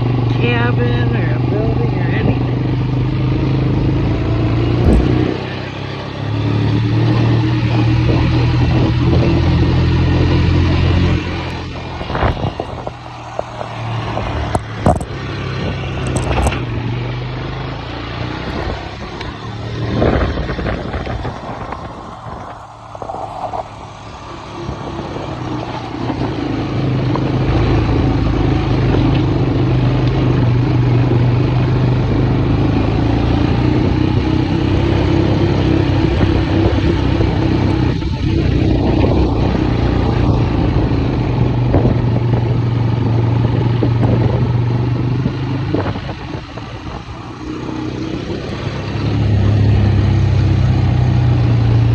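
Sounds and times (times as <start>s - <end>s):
vehicle engine driving: 0.0s - 51.9s.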